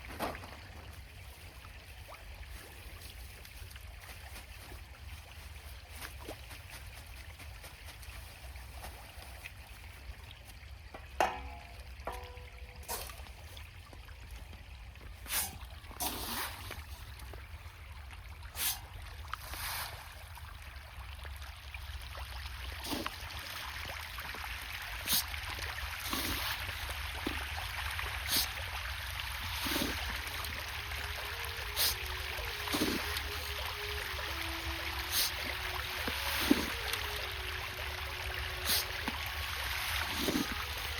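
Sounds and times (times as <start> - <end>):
water splashes: 0.0 - 40.9
water trickling: 0.0 - 40.9.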